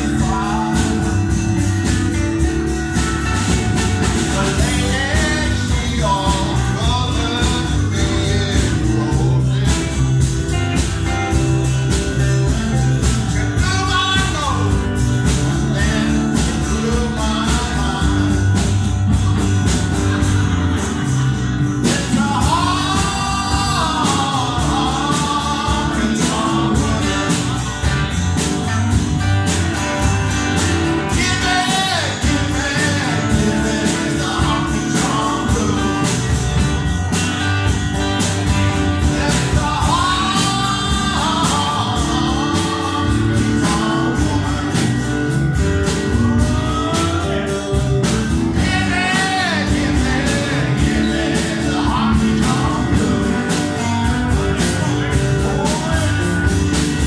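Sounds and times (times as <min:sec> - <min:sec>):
bass: 0:00.0 - 0:57.0
drums keeping a steady beat: 0:00.0 - 0:57.0
lead melody: 0:00.0 - 0:57.0
strummed acoustic guitar: 0:00.0 - 0:57.0.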